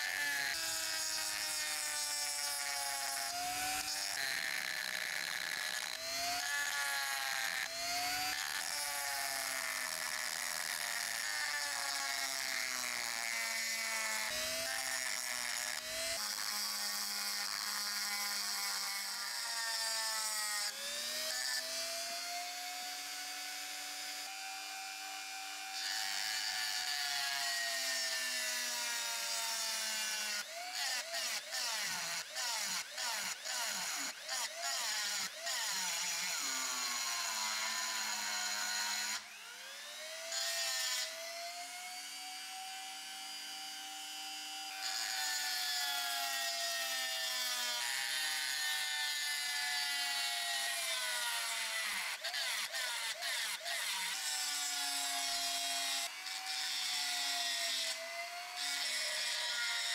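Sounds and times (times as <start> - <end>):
rotary tool grinding metal: 0.0 - 59.9.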